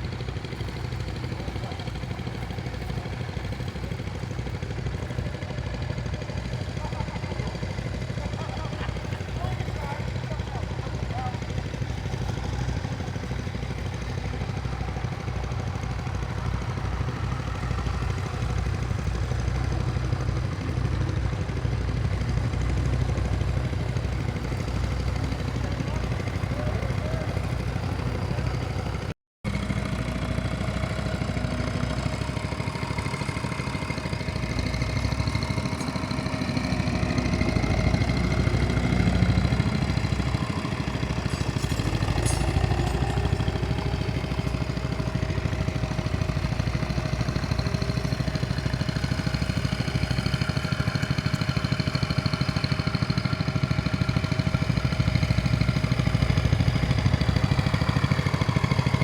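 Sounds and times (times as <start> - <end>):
tractor engines running under load: 0.0 - 59.0.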